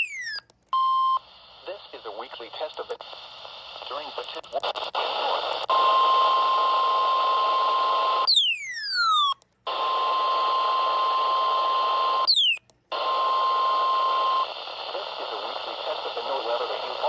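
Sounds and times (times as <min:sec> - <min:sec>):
radio static: 0:01.2 - 0:08.2, 0:09.7 - 0:12.3, 0:12.9 - 0:17.0.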